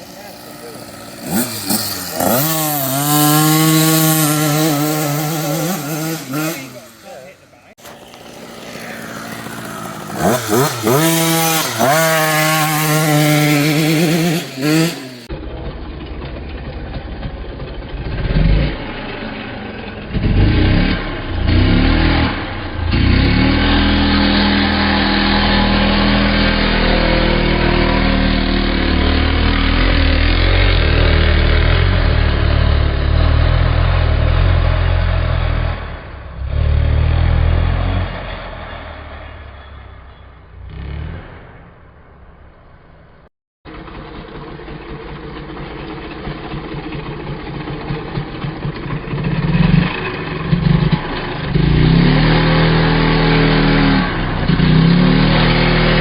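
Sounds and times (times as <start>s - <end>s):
dirt bike engine revving: 0.0s - 15.6s, 16.3s - 42.1s, 43.7s - 56.0s.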